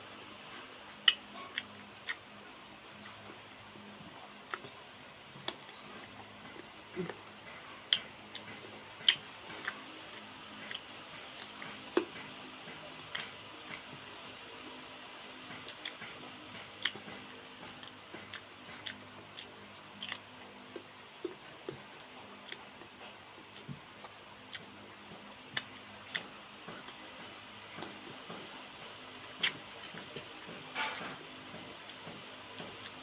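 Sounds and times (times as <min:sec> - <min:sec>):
faint steady hum: 0:00.0 - 0:33.0
crunching and chewing: 0:00.1 - 0:14.0, 0:15.5 - 0:33.0.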